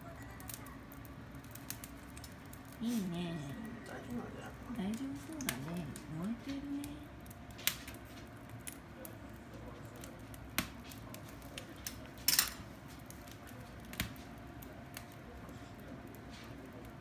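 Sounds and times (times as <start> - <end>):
fire crackling pops: 0.0 - 17.0.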